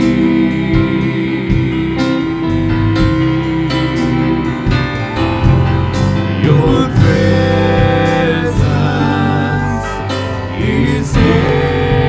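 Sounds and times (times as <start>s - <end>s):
guitar and keyboard chords: 0.0s - 12.0s
steady drum beat: 0.0s - 12.0s.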